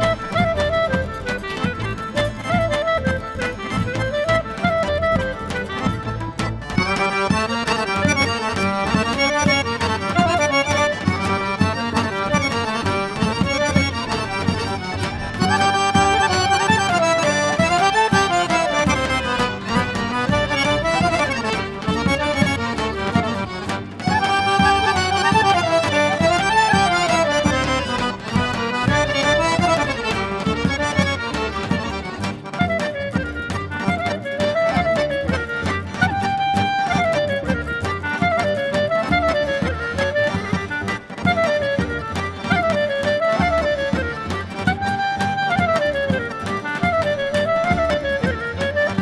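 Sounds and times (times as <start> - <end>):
accordion-led folk dance band: 0.0 - 49.0.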